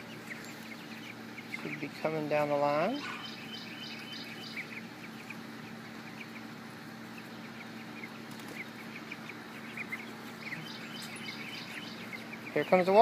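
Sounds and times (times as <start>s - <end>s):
chickens peeping and clucking: 0.0s - 13.0s
faint steady hum: 0.0s - 13.0s.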